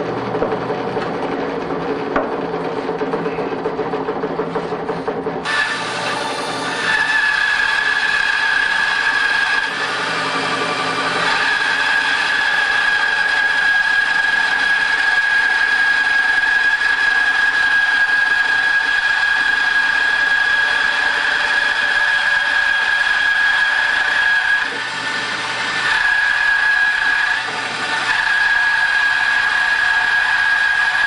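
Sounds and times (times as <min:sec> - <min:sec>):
band saw cutting wood: 0:00.0 - 0:31.0.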